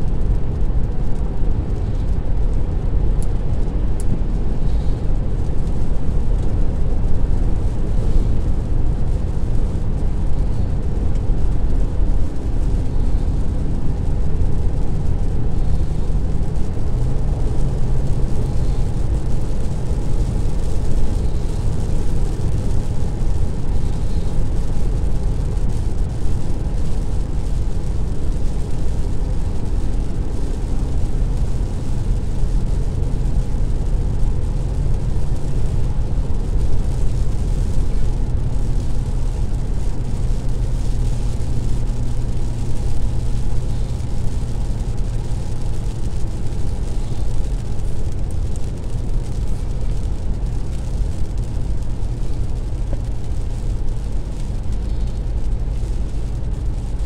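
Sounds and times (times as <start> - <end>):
car road noise on wet road: 0.0 - 57.0.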